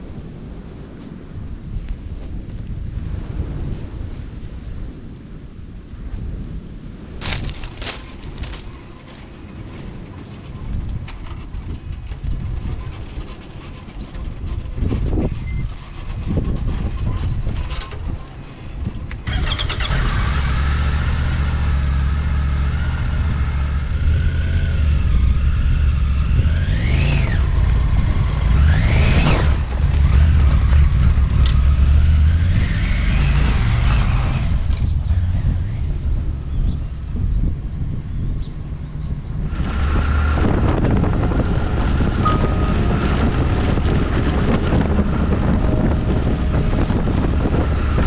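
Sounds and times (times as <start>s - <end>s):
knocks and rumbling: 7.2s - 37.3s, 39.2s - 48.0s
motorcycle engine running: 7.2s - 48.0s.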